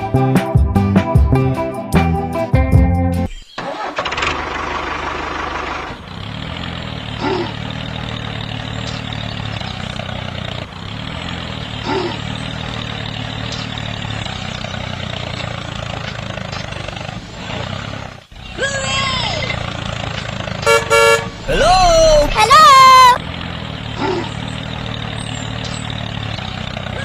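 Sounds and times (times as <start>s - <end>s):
vehicle engine idling: 3.6s - 27.0s.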